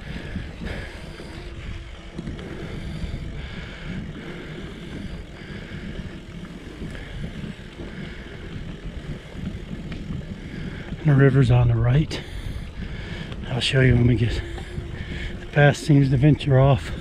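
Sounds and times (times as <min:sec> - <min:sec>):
tyres rumbling on pavement: 0:00.0 - 0:17.0
wind buffeting microphone: 0:00.0 - 0:17.0.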